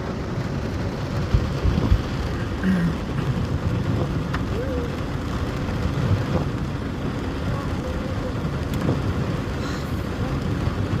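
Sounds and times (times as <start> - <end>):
traffic on a rainy street: 0.0 - 11.0
wind: 0.0 - 11.0.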